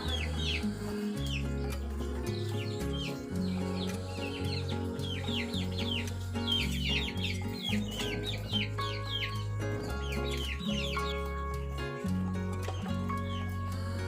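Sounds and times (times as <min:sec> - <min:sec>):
background music with bass line: 0:00.0 - 0:14.0
chicks chirping: 0:00.0 - 0:14.0.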